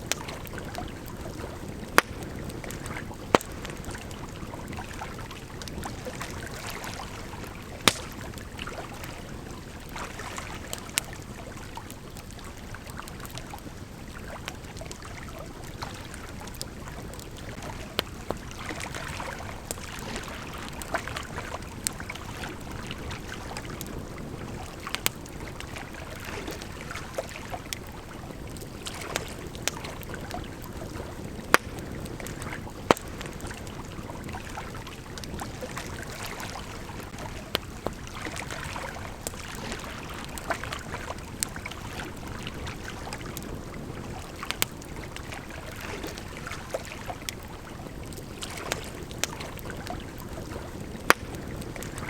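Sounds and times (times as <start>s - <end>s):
campfire crackling: 0.0s - 52.0s
river flowing: 0.0s - 52.0s.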